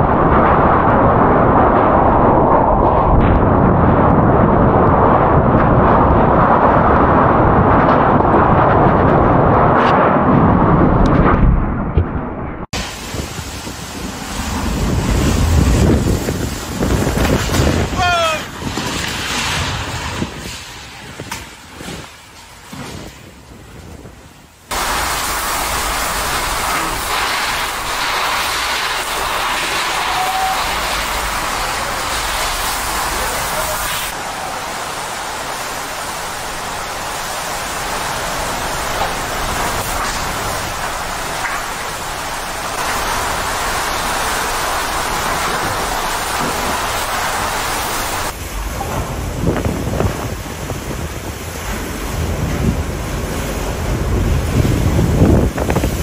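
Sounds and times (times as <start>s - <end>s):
heavy rain: 0.0s - 11.1s, 12.6s - 56.0s
wind buffeting microphone: 0.0s - 56.0s.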